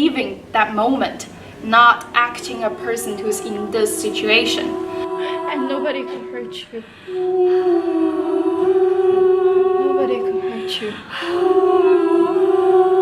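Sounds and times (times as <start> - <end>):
person humming a held note: 2.3 - 13.0.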